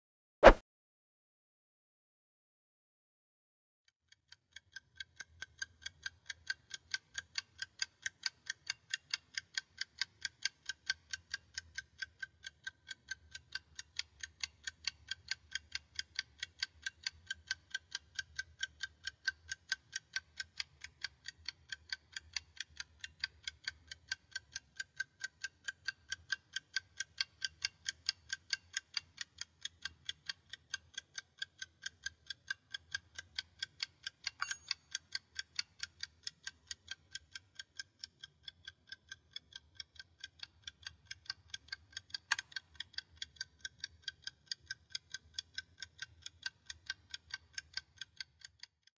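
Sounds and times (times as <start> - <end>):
clock ticking: 4.3 - 48.9.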